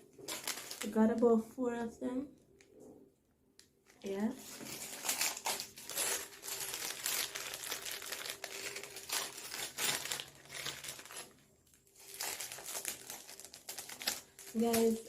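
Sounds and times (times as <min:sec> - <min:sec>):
plastic packaging crinkling: 0:00.0 - 0:01.4, 0:03.6 - 0:15.0.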